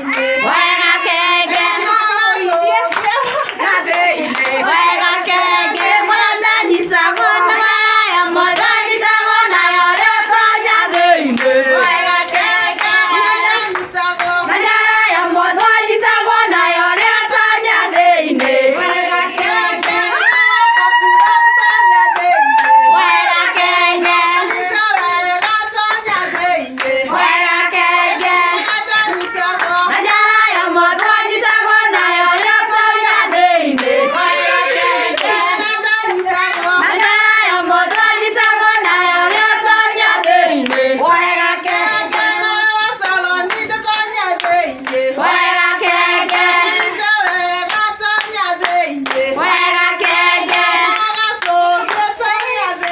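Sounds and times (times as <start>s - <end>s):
hand clapping: 0.0s - 0.4s, 1.5s - 6.0s, 10.9s - 15.8s, 16.5s - 27.1s, 27.8s - 31.2s, 33.3s - 40.9s, 41.6s - 52.9s
voices singing together: 0.0s - 52.9s.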